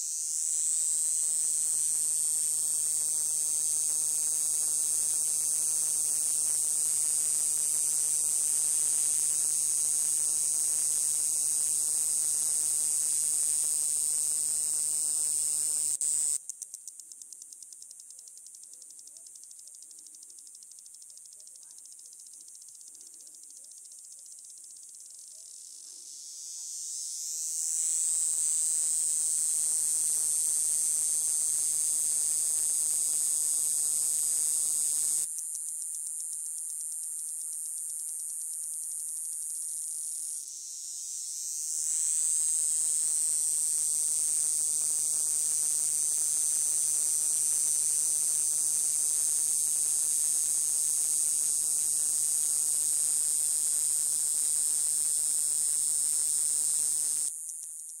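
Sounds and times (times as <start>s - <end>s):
cicada buzzing: 0.0s - 58.0s.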